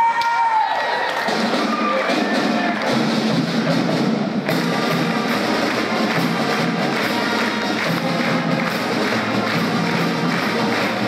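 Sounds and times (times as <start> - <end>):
drums keeping the beat: 1.2 - 11.0
pep band playing: 1.2 - 11.0.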